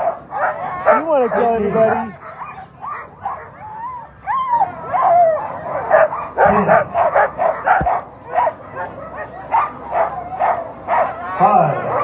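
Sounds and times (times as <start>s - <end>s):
sled dogs barking and yelping: 0.0s - 12.0s.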